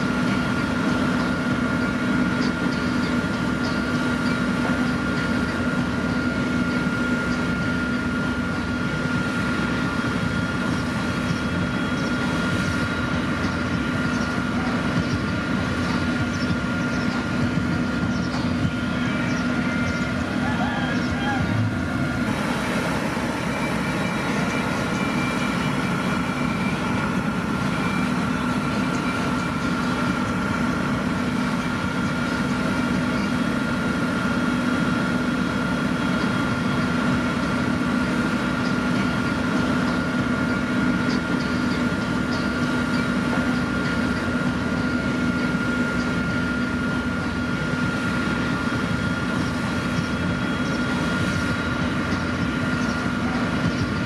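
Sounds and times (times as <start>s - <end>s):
diesel engine humming with whine: 0.0s - 54.0s.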